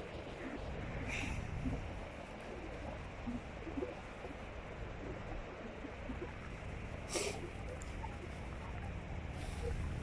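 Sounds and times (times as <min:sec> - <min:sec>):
surf hiss: 0:00.0 - 0:10.0
wind buffeting microphone: 0:00.0 - 0:10.0.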